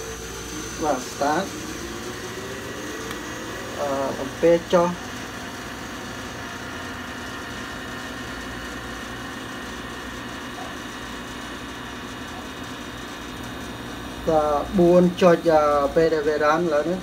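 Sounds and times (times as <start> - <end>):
refrigerator compressor humming: 0.0 - 17.0.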